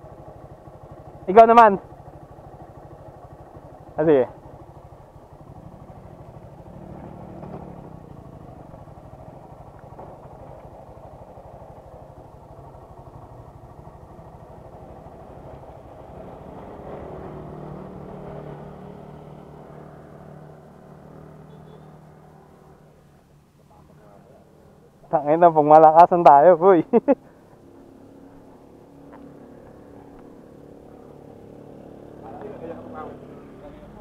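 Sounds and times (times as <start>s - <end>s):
motorcycle engine idling: 0.0s - 18.2s, 19.0s - 34.0s.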